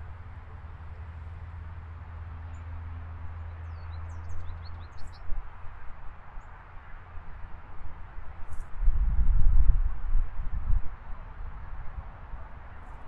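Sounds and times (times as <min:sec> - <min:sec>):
distant highway traffic: 0:00.0 - 0:13.0.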